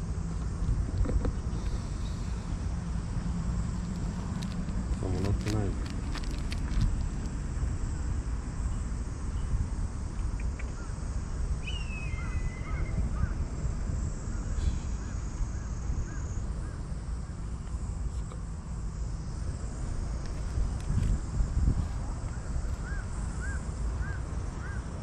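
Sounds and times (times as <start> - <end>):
high insect drone: 0.0 - 25.0
steady low rumble: 0.0 - 25.0.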